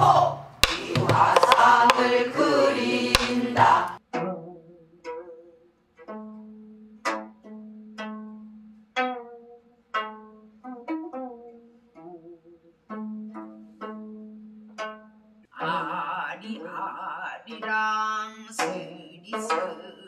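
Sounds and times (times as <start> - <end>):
plucked zither notes: 0.0 - 20.0.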